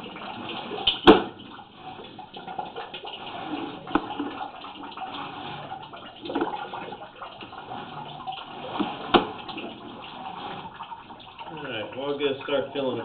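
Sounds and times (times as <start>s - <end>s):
water running down drain line: 0.0s - 13.0s.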